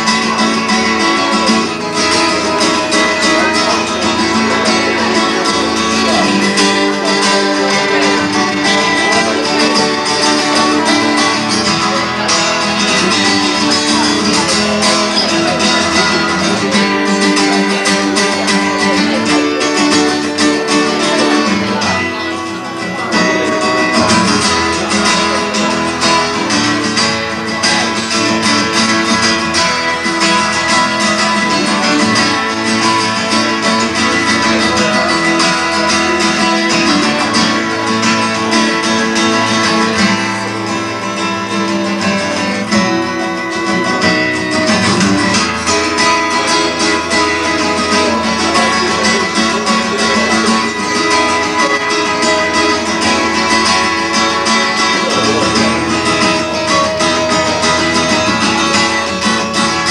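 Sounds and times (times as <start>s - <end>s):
acoustic guitars playing: 0.0s - 59.9s.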